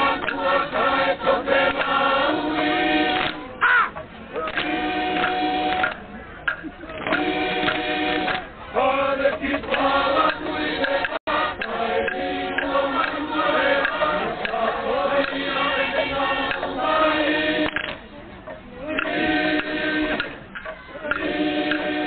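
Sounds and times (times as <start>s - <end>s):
group singing and chanting: 0.0s - 22.0s.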